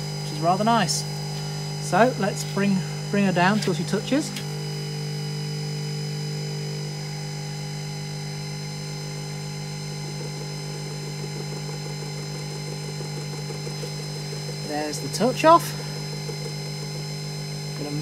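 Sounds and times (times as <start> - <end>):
spindle motor hum and whine: 0.0 - 18.0.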